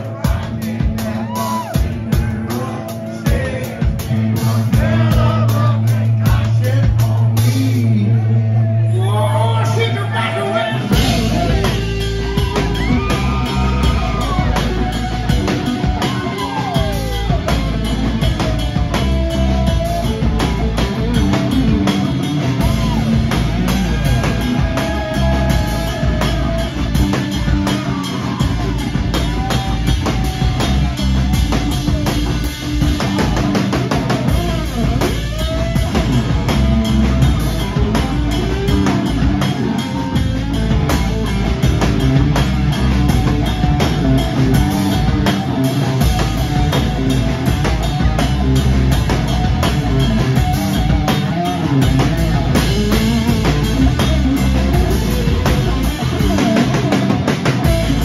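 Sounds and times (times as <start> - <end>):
drum kit: 0.0 - 8.1, 10.7 - 58.0
bass guitar: 0.0 - 58.0
electric guitar lead: 10.4 - 58.0.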